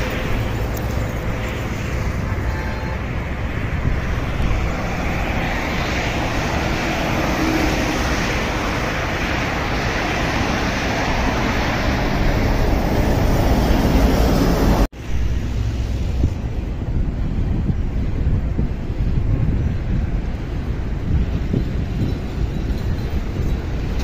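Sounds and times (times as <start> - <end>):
highway traffic passing: 0.0 - 24.0.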